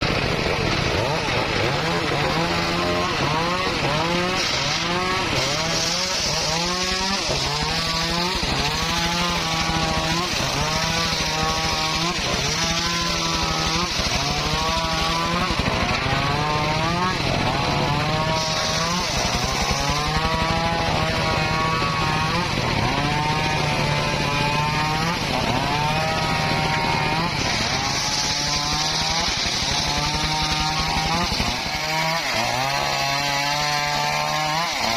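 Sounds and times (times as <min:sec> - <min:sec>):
circular saw cutting wood: 0:00.0 - 0:34.9.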